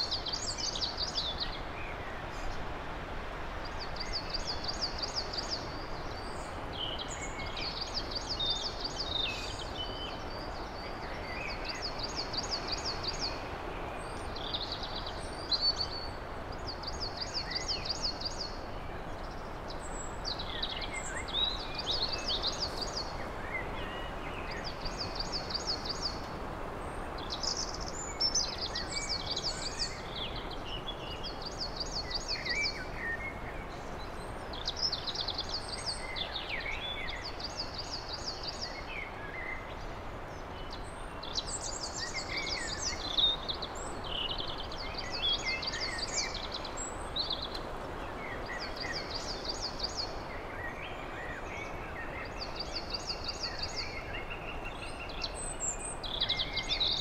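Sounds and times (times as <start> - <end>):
background hiss: 0.0 - 57.0
songbirds singing: 0.0 - 57.0.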